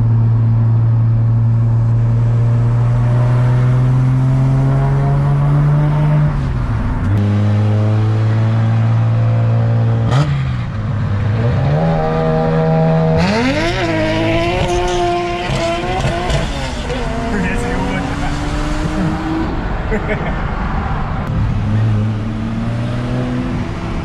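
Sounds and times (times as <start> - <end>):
car engine revving: 0.7 - 20.2, 20.9 - 24.0.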